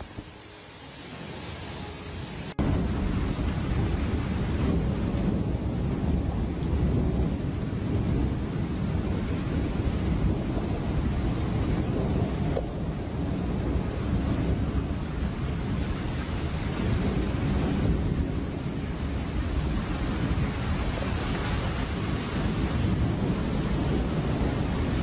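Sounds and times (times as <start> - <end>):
heavy rain: 0.0 - 25.0
thunder rumbling: 2.5 - 25.0.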